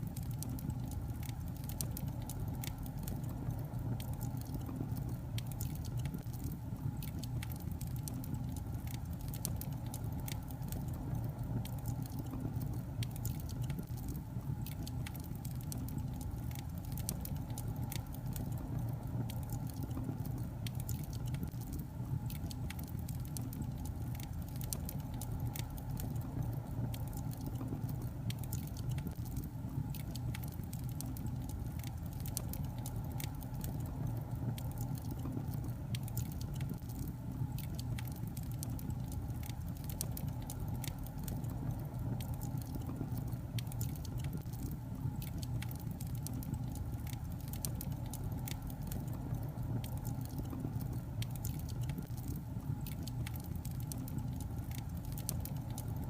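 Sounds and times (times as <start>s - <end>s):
crackles and pops of fire: 0.0s - 56.0s
wood fire burning: 0.0s - 56.0s.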